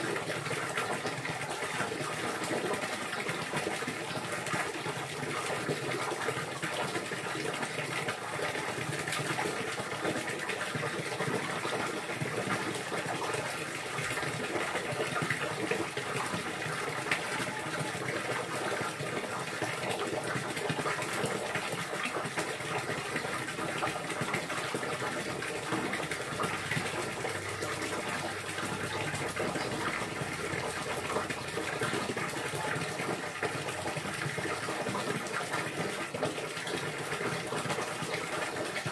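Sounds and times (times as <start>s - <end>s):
water running and pouring: 0.0s - 38.9s.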